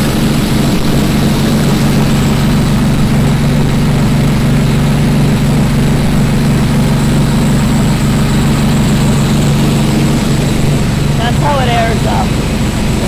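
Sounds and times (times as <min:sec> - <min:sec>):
heavy engine idling drone: 0:00.0 - 0:13.0.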